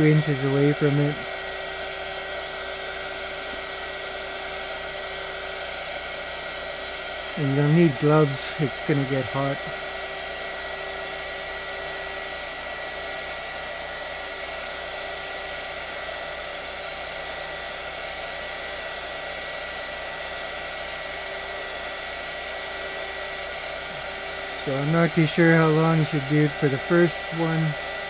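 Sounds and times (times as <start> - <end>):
heat gun fan blowing with whine: 0.0 - 28.0.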